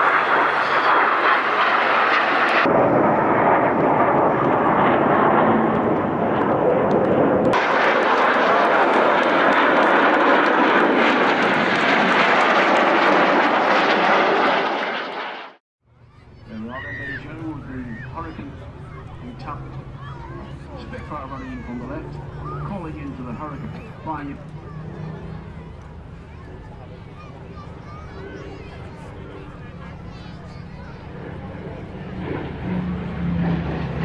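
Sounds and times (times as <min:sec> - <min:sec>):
jets flying past: 0:00.0 - 0:15.6, 0:17.0 - 0:34.0.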